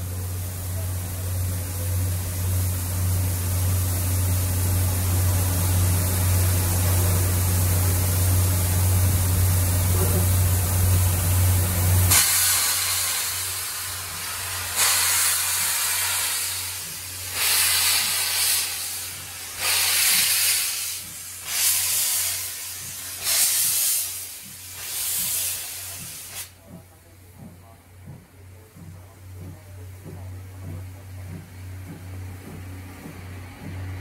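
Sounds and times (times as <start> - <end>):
steam locomotive hissing steam: 0.0 - 34.0.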